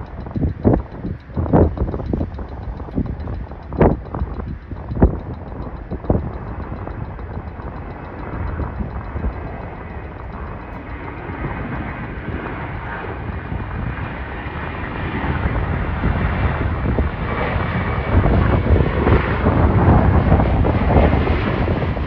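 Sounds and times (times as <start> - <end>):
jet airliner engines roaring: 0.0 - 22.0.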